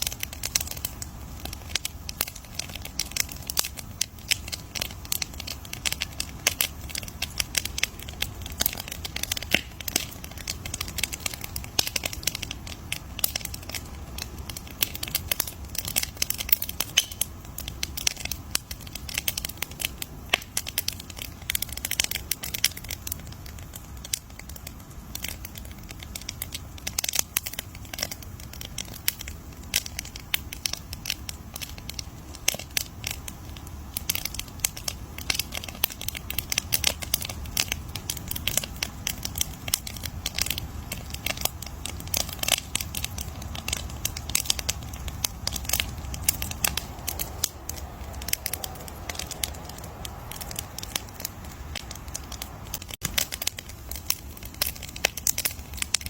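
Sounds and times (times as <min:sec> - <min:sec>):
low rumble of burning: 0:00.0 - 0:56.0
wood fire snaps and pops: 0:00.0 - 0:56.0.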